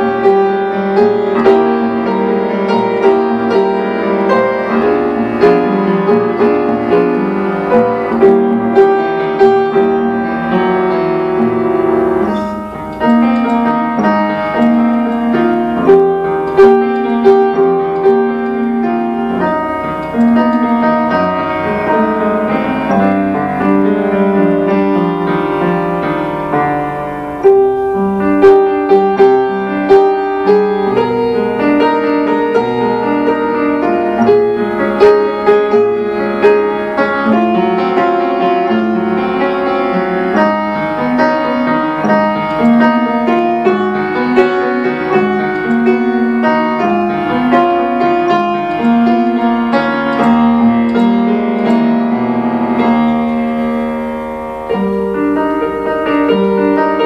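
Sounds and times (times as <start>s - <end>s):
solo upright piano: 0.0s - 57.0s.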